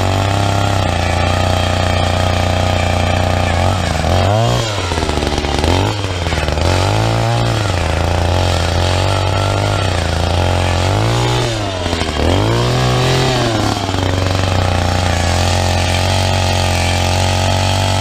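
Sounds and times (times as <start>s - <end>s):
earth auger engine running hard: 0.0s - 18.0s.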